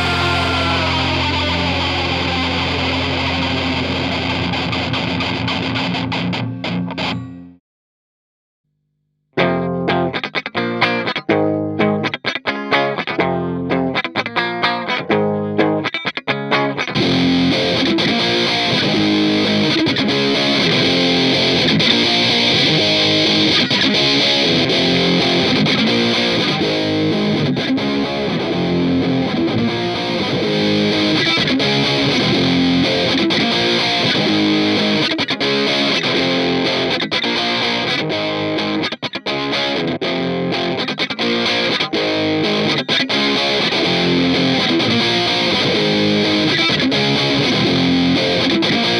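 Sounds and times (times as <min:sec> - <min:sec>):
distorted electric guitar: 0:00.0 - 0:07.6, 0:09.4 - 0:48.9.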